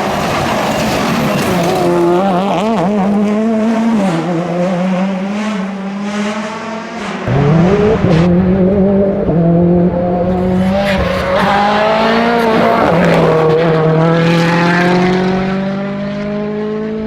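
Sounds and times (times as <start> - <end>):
rally car engine running hard: 0.0 - 17.0.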